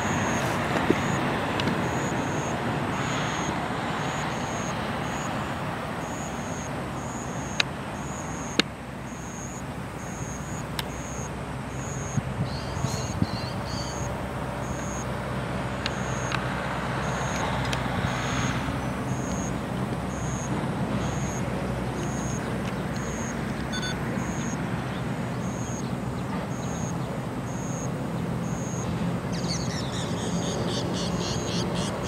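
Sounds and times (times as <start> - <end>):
distant vehicles rumbling: 0.0 - 32.0.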